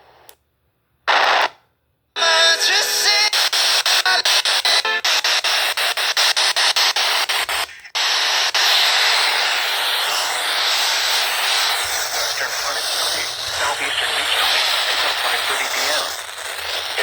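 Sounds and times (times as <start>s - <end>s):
music on radio: 2.2s - 17.0s
noise cutting in and out: 2.3s - 17.0s
static hiss: 2.3s - 17.0s.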